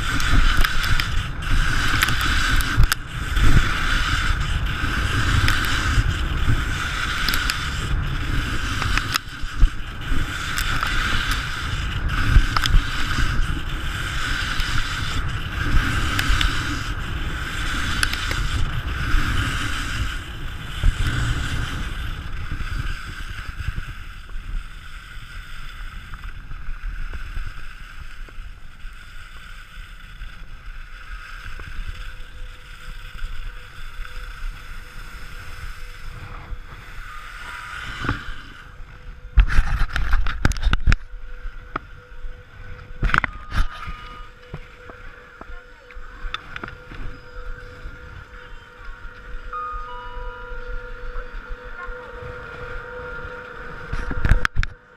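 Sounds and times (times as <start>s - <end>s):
skis hissing over snow: 0.0s - 54.4s
faint steady hum: 0.0s - 54.9s
skis and poles scraping and knocking: 0.0s - 54.9s
wind rushing over camera: 0.0s - 54.9s.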